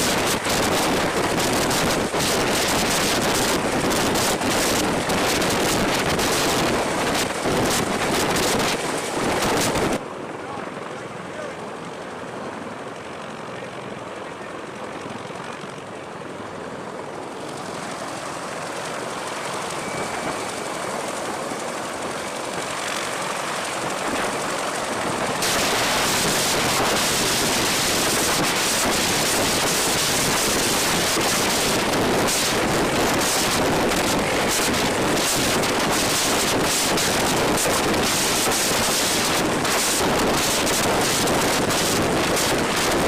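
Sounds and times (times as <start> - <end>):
wind buffeting microphone: 0.0 - 10.0, 18.4 - 43.0
rushing aircraft noise: 0.0 - 43.0.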